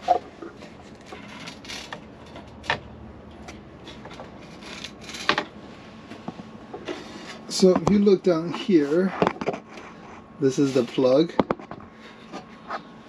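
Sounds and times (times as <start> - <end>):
light rubbing and creaking: 0.0 - 2.8, 3.8 - 5.6, 6.2 - 13.0.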